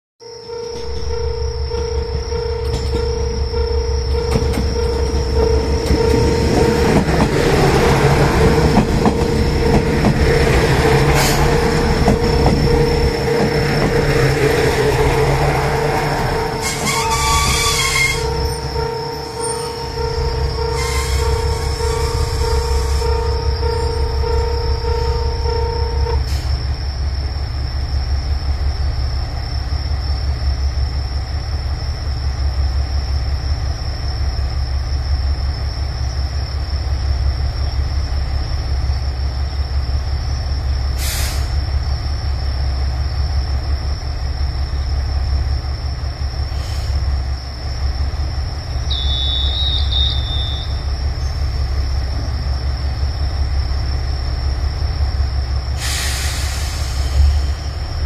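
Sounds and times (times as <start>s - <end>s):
diesel railcars idling: 0.8s - 58.0s.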